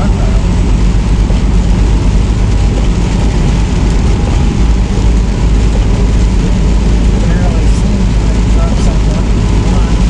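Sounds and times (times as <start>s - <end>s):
road noise: 0.0s - 10.0s
truck engine rumble: 0.0s - 10.0s.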